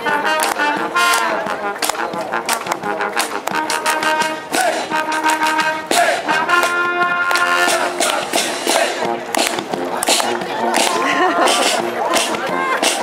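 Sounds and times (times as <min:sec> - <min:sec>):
brass band playing: 0:00.0 - 0:13.0
steady drum beat: 0:00.0 - 0:13.0
trombones: 0:00.0 - 0:13.0.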